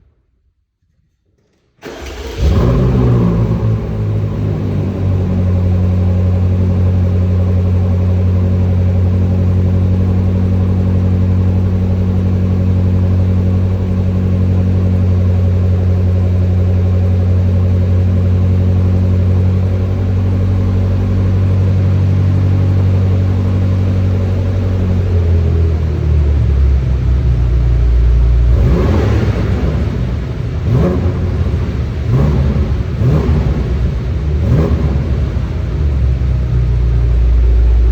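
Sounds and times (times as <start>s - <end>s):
car engine starting and idling: 1.4s - 37.9s
car engine revving: 1.8s - 37.9s.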